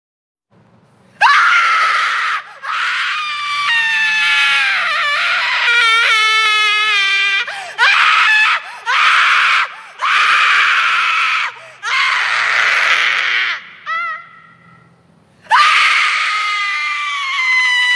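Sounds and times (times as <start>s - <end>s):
woman screaming: 1.2s - 14.7s, 15.5s - 17.9s.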